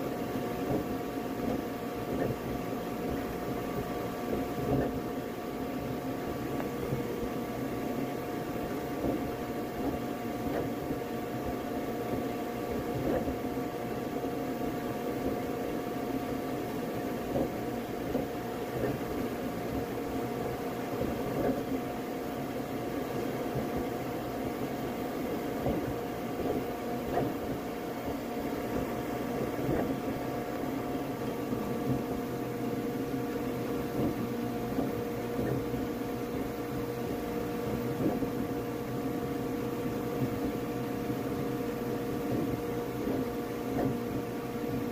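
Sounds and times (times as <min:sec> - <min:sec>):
printer fans whirring: 0:00.0 - 0:44.9.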